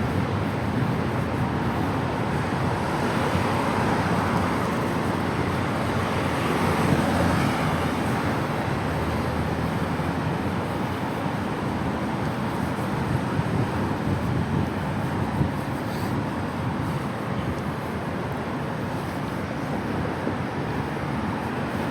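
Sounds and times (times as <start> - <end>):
city road traffic: 0.0 - 21.9.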